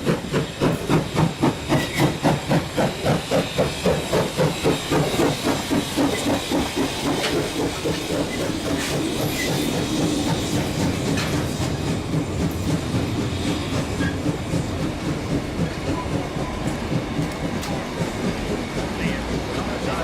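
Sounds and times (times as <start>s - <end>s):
carriages rattling on rails: 0.0s - 20.0s
steam hissing: 0.0s - 20.0s
steam locomotive exhaust beats: 0.0s - 20.0s.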